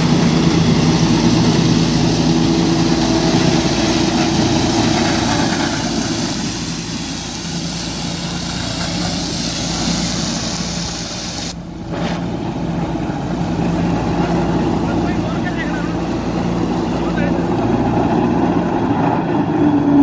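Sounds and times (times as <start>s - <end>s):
straw chopper shredding straw: 0.0s - 20.0s
tractor engine running: 0.0s - 20.0s.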